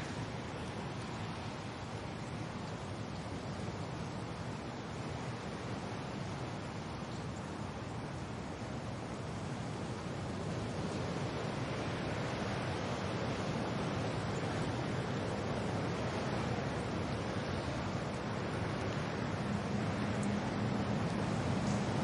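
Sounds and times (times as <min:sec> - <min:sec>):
wind and rain: 0:00.0 - 0:22.0.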